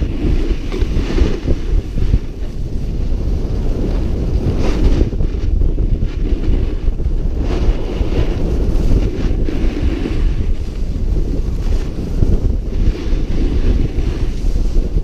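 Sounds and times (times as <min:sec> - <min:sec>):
snowboard edge scraping snow: 0:00.0 - 0:15.0
wind rushing over microphone: 0:00.0 - 0:15.0.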